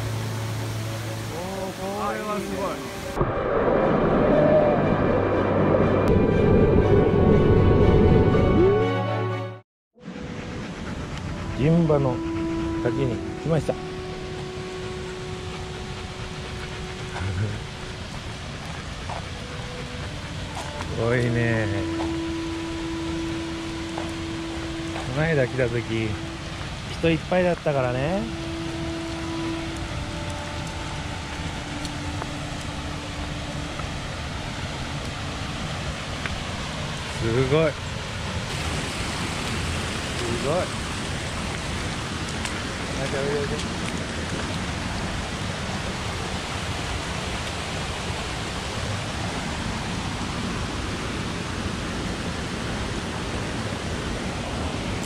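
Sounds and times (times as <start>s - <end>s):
river flowing: 0.0s - 6.9s, 10.0s - 55.0s
waterfall rushing: 0.0s - 7.0s, 10.0s - 55.0s.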